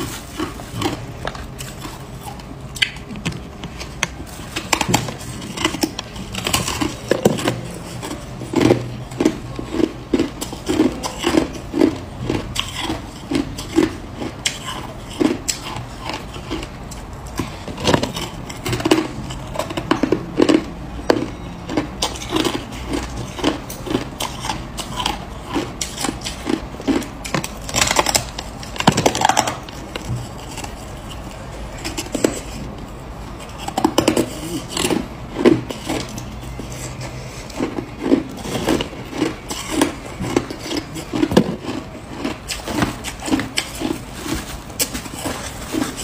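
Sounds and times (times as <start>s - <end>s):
crushed ice being chewed: 0.0s - 46.0s.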